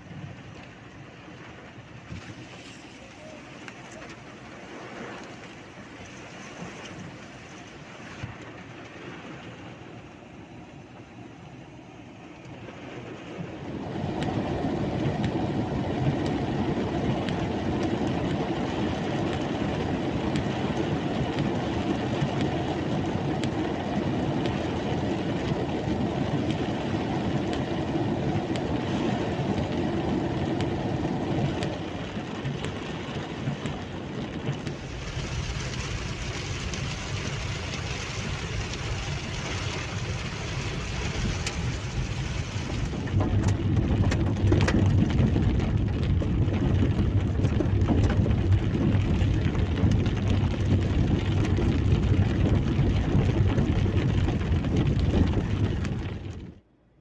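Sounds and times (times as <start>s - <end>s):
heavy rain on car roof: 0.0s - 11.3s, 12.1s - 56.7s
tyres and engine rumble: 10.1s - 56.7s.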